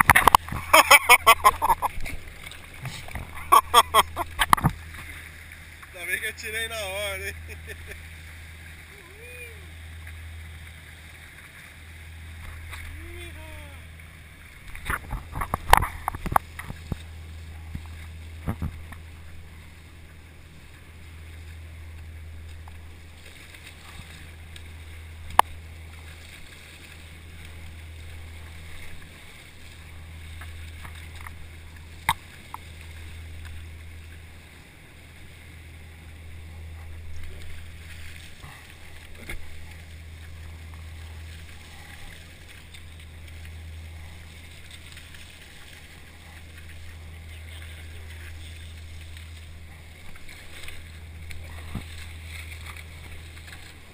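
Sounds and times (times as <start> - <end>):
steady low hum: 0.0 - 53.9
water rushing and churning: 0.0 - 53.9.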